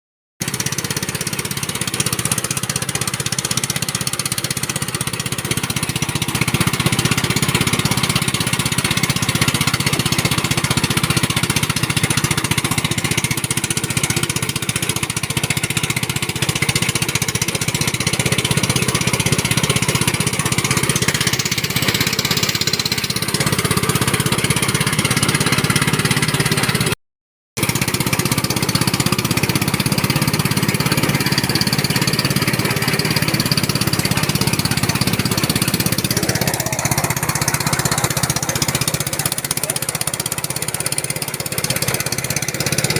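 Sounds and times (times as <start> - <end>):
harvesting machine engine running: 0.4 - 27.0, 27.6 - 42.9.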